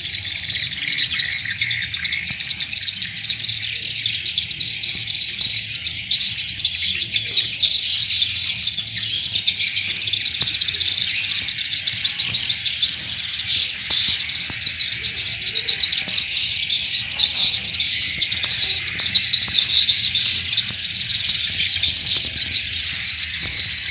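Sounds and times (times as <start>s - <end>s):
swiftlets twittering: 0.0s - 23.9s.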